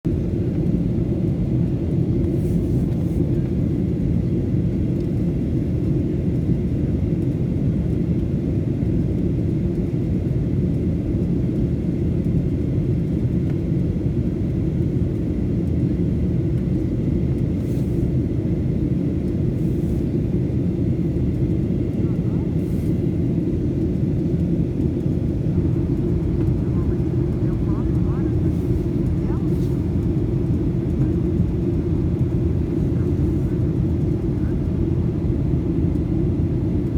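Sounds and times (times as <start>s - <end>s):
airliner cabin engine rumble: 0.1s - 36.9s.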